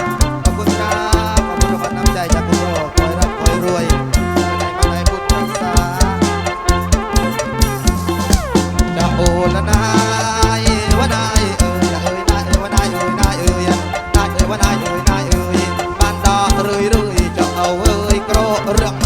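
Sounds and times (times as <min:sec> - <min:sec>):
band playing over loudspeakers: 0:00.0 - 0:19.0
drum beat: 0:00.0 - 0:19.0.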